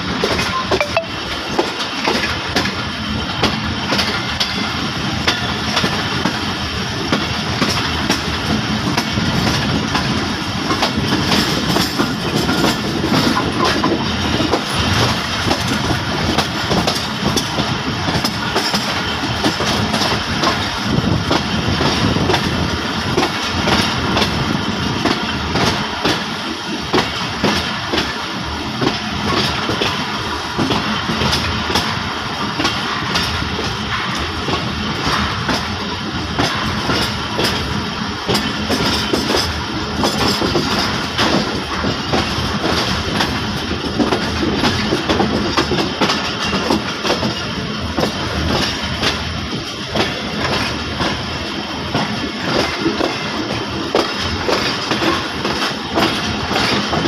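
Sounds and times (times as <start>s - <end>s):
train wheels rumbling: 0.0s - 57.0s
wheels clacking over rail joints: 0.1s - 57.0s.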